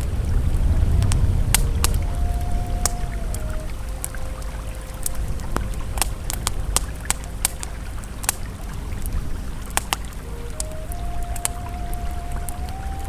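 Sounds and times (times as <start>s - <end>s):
campfire crackling: 0.0s - 13.0s
river flowing: 0.0s - 13.0s.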